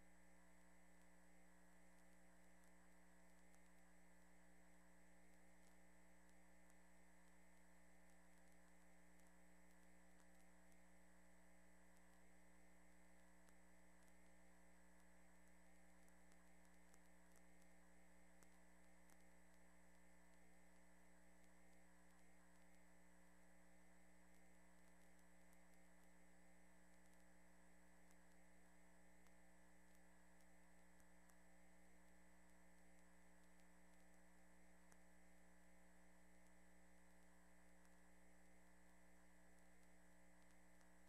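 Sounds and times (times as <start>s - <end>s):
faint electrical hum: 0.0s - 41.0s
faint ticks: 0.0s - 41.0s.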